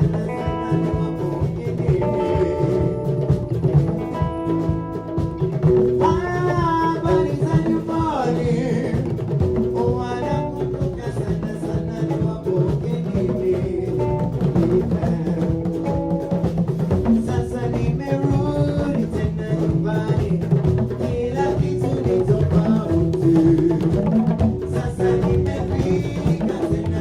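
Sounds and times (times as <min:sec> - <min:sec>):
person singing: 0:00.0 - 0:04.2, 0:05.9 - 0:16.3, 0:17.0 - 0:27.0
drum kit beat: 0:00.0 - 0:27.0
guitar: 0:00.0 - 0:27.0.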